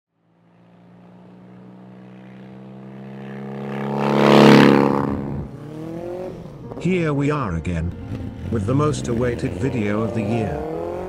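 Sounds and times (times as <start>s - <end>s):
motorcycle engine running: 0.2s - 7.2s, 7.8s - 11.0s.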